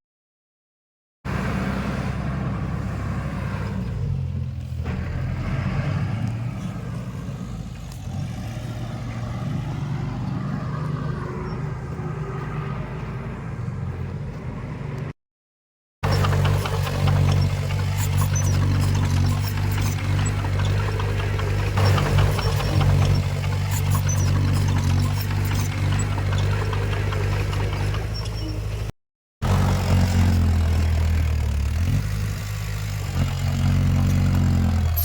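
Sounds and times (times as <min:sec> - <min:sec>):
diesel engine droning: 0:01.3 - 0:15.2, 0:16.0 - 0:35.0.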